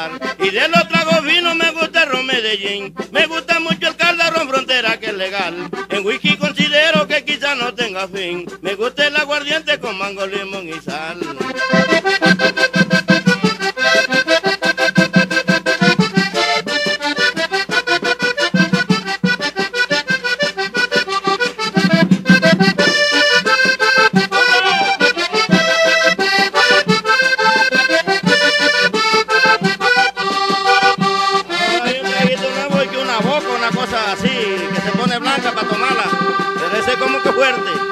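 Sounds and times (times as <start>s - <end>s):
button accordion fast runs: 0.0s - 37.9s
steady percussion beat: 0.0s - 37.9s.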